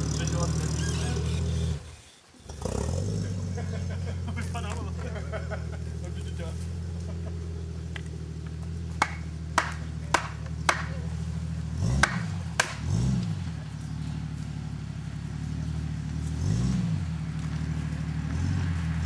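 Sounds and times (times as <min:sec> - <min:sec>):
engine idling and revving: 0:00.0 - 0:19.0.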